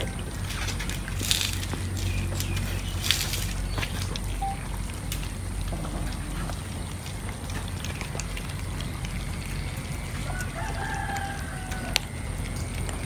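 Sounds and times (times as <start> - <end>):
cats chewing meat: 0.0 - 13.0
low rumble: 0.0 - 13.0
drawn-out animal call: 1.8 - 13.0.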